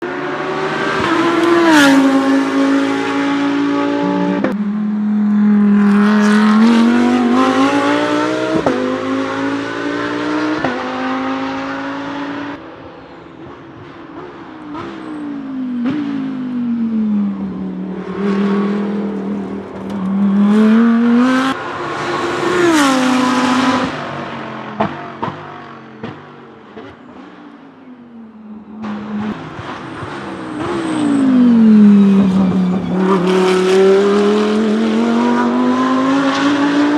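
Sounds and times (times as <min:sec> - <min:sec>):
race car engine accelerating: 0:00.0 - 0:12.6, 0:14.6 - 0:36.9.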